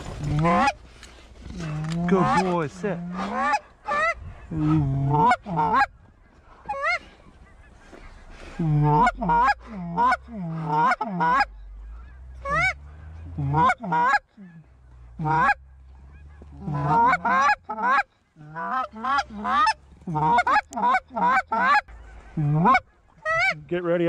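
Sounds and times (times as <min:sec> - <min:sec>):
goose call honks and clucks: 0:00.0 - 0:23.8.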